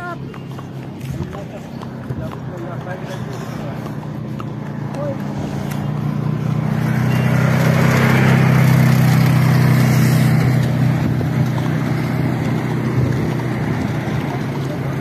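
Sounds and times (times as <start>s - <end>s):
quad bike engine passing: 0.0s - 15.0s.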